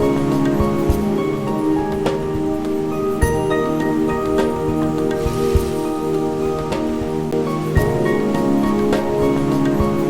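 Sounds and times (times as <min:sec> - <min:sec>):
background music ringing notes: 0:00.0 - 0:10.0.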